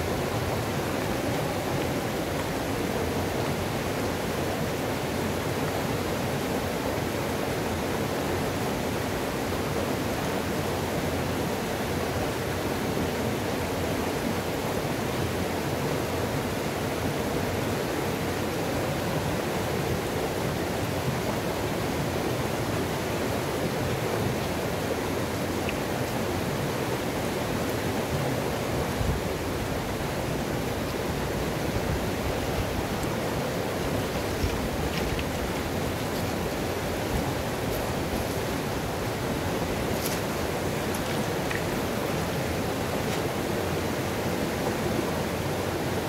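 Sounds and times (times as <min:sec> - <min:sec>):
river water rushing over rocks: 0:00.0 - 0:46.0.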